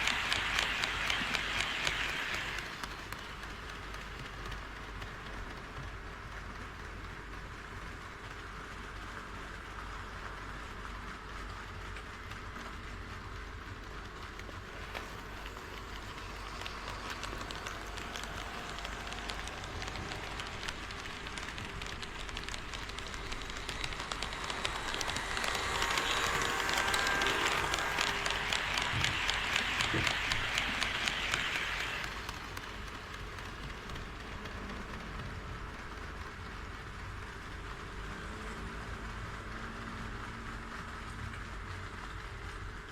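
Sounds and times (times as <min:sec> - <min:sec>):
model train wheels clicking: 0:00.0 - 0:42.9.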